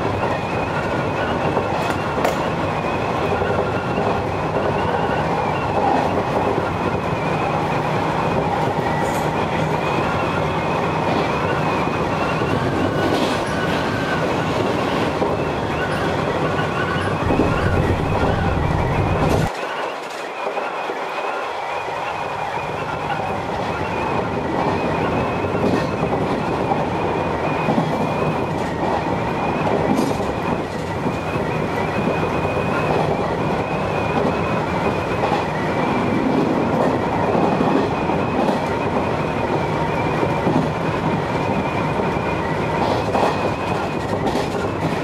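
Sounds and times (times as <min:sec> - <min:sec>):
train clicks: 0:00.0 - 0:21.0, 0:25.4 - 0:26.9, 0:27.6 - 0:45.0
train wheels on rails: 0:00.0 - 0:45.0.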